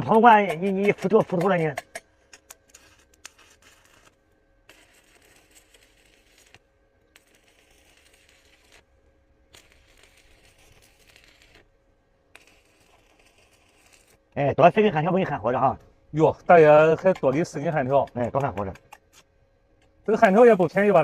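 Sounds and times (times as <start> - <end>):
arc welding crackle and hiss: 0.0 - 21.0.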